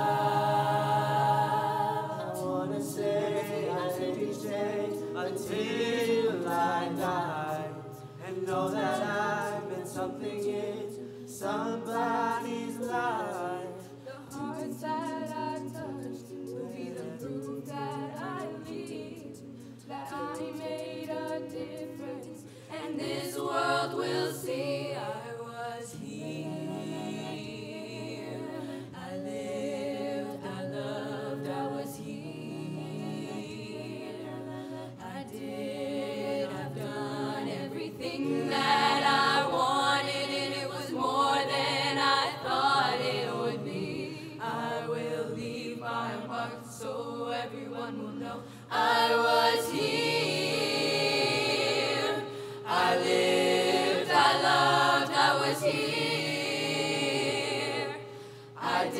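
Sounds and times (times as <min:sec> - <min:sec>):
choir singing a cappella: 0:00.0 - 0:58.9.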